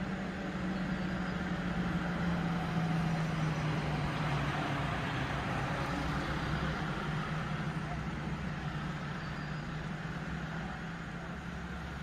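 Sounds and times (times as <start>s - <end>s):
tyre and road noise: 0.0s - 12.0s
vehicles passing on highway: 0.0s - 12.0s.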